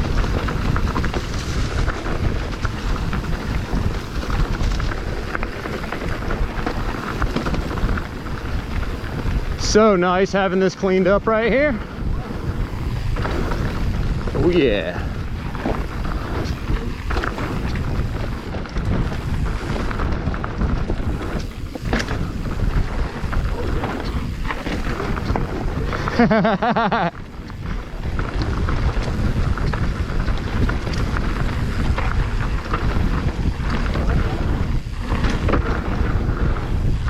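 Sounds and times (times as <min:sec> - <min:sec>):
bike knocks and rattles: 0:00.0 - 0:37.0
bike rumbling: 0:00.0 - 0:37.0
wind buffeting microphone: 0:00.0 - 0:37.0.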